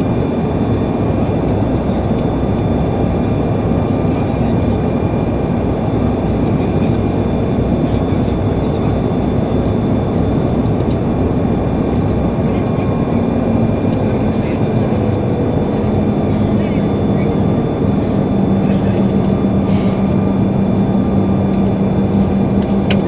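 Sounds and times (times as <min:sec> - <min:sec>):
airliner cabin engine and air noise: 0:00.0 - 0:23.0.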